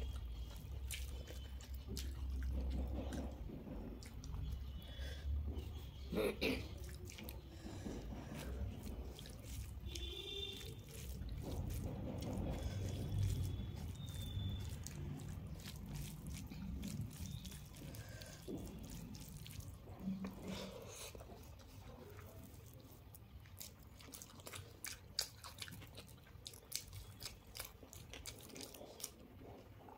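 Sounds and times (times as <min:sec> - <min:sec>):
hand squishing wet rice: 0:00.0 - 0:29.2.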